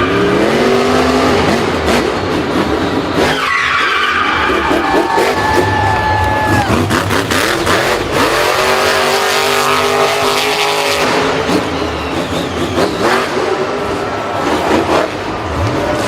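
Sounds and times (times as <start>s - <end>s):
racing car engine: 0.0s - 16.0s.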